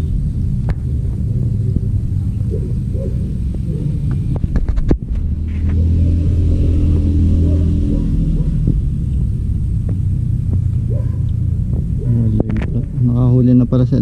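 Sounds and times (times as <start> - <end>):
low motor rumble: 0.0 - 14.0.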